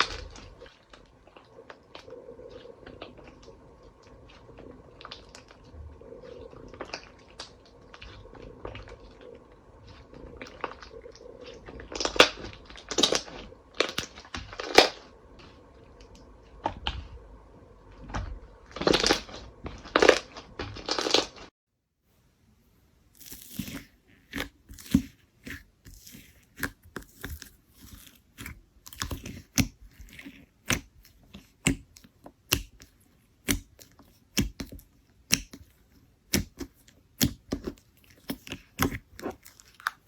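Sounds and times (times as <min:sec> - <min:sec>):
slime crackling and squishing: 0:00.0 - 0:17.2, 0:17.9 - 0:21.5, 0:23.1 - 0:40.0.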